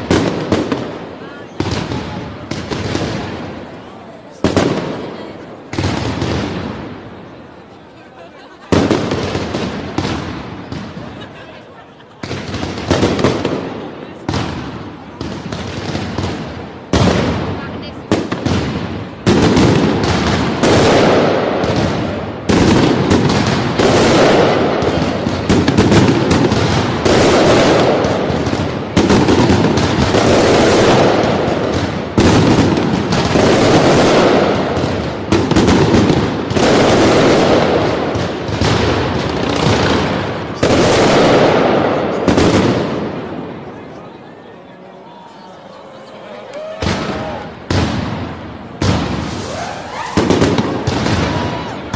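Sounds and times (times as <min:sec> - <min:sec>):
fireworks crackling bangs: 0:00.0 - 0:44.4, 0:46.0 - 0:51.9.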